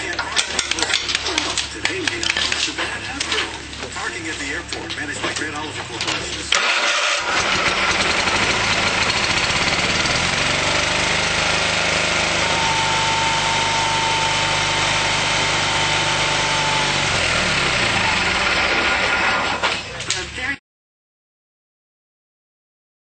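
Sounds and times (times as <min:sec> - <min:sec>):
lawn tractor engine running: 0:00.0 - 0:20.5.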